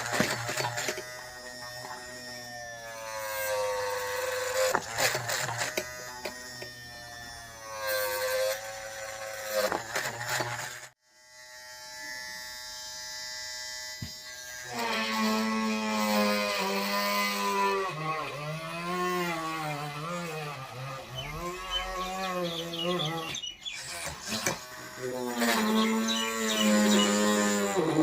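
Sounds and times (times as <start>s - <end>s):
small motor drill whining: 0.0s - 28.0s.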